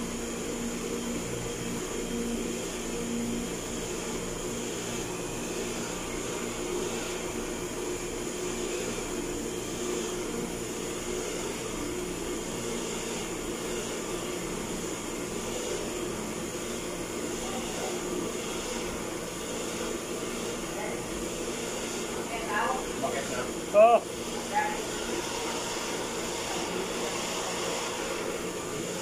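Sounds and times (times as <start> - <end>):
water pump humming: 0.0 - 29.0.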